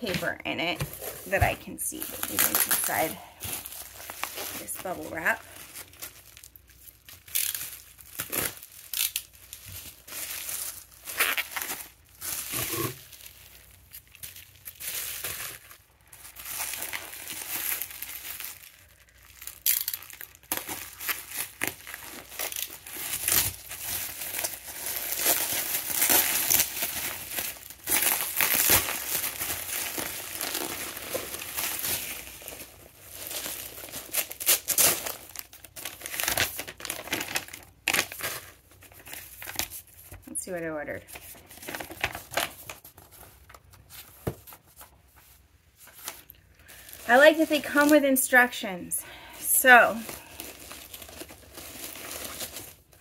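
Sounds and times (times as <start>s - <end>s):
bubble wrap crinkling: 0.0s - 53.0s.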